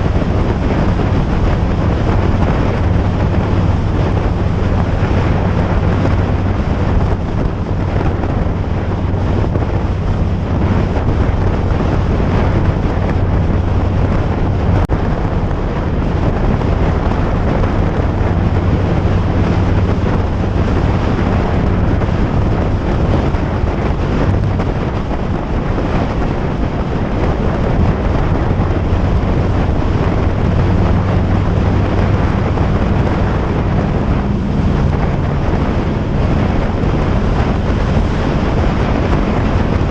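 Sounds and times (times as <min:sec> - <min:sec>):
steady low hum: 0:00.0 - 0:39.9
wind buffeting microphone: 0:00.0 - 0:39.9.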